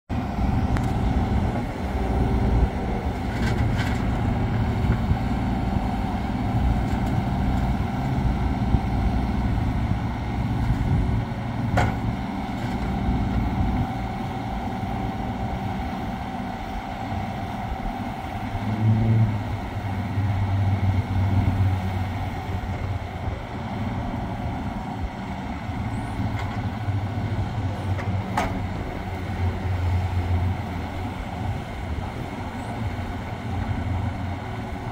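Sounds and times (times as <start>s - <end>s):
excavator diesel engine under load: 0.1s - 34.9s.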